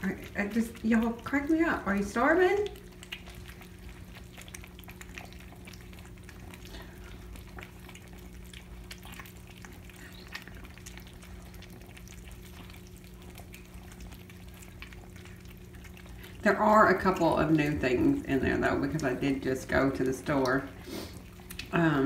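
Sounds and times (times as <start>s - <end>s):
kittens chewing and lapping: 0.0s - 22.0s
steady low hum: 0.0s - 22.0s.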